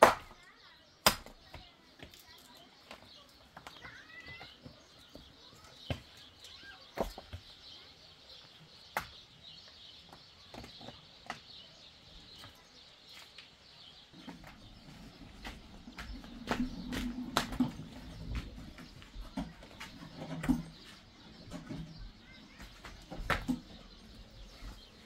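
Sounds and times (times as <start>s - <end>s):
faint birds chirping: 0.0s - 25.0s.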